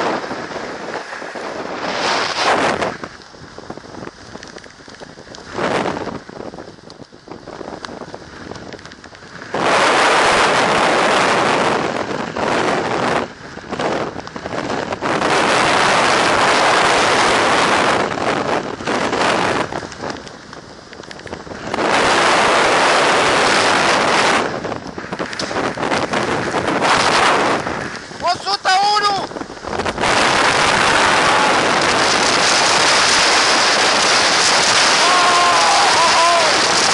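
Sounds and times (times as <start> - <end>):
strong wind buffeting microphone: 0.0 - 36.9.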